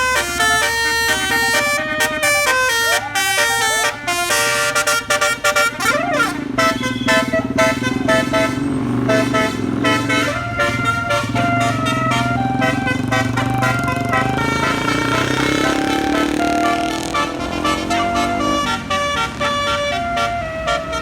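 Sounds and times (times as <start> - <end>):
bus engine droning: 0.0 - 21.0
musical air horn playing a tune: 0.0 - 21.0.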